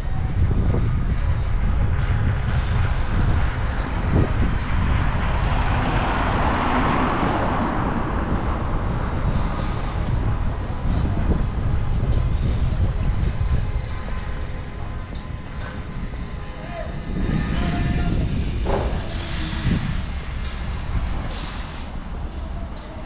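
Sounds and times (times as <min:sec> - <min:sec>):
city traffic rumble: 0:00.0 - 0:23.0
vehicle passing: 0:02.5 - 0:22.6.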